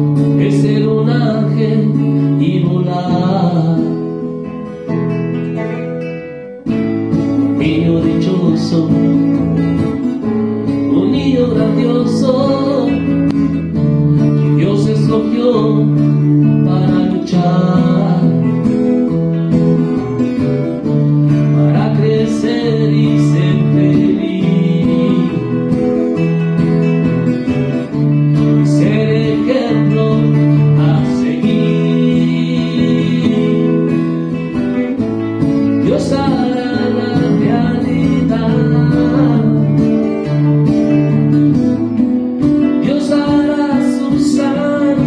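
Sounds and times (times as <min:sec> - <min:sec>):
man singing: 0:00.0 - 0:04.8, 0:07.2 - 0:26.8, 0:27.4 - 0:45.0
acoustic guitars playing a ballad: 0:00.0 - 0:45.0.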